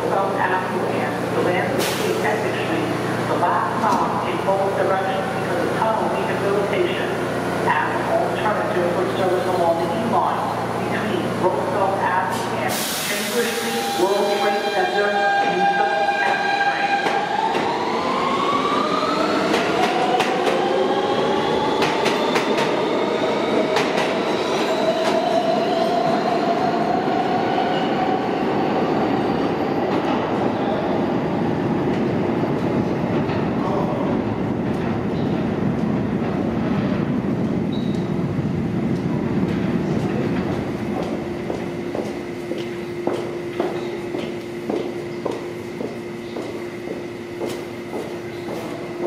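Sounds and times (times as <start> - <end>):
subway train motors whining: 0.0 - 49.0.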